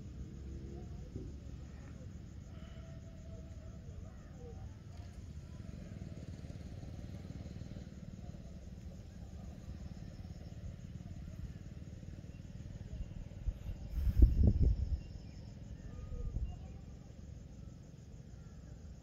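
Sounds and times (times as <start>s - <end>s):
faint insects chirring: 0.0s - 19.0s
low outdoor rumble: 0.0s - 19.0s.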